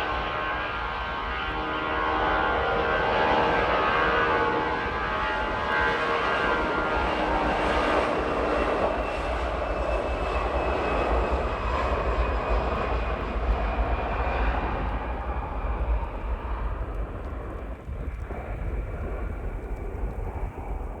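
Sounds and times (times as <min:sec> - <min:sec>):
jet engine whine: 0:00.0 - 0:21.0
jet engines roaring: 0:00.0 - 0:21.0.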